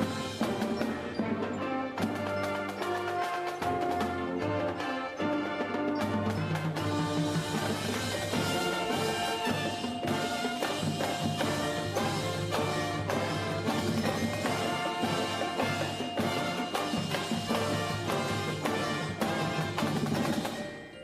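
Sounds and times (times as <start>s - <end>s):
band playing chords: 0.0s - 21.0s
percussion strikes: 0.0s - 21.0s.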